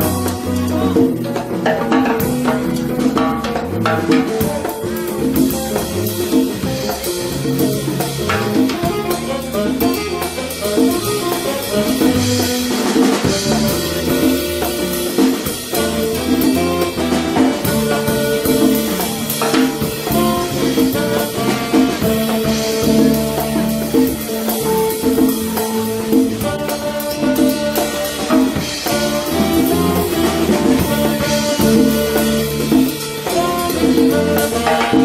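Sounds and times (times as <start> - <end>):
saxophone melody: 0.0 - 1.6, 4.3 - 35.0
congas: 0.0 - 35.0
drum kit: 0.0 - 35.0
electric bass: 0.0 - 35.0.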